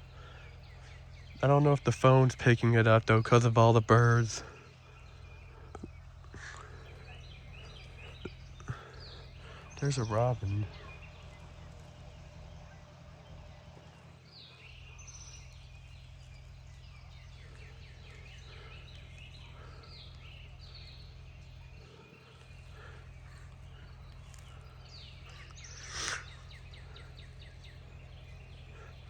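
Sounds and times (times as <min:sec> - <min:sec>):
songbirds chirping and singing: 0:00.0 - 0:29.0
steady low hum: 0:00.0 - 0:29.0.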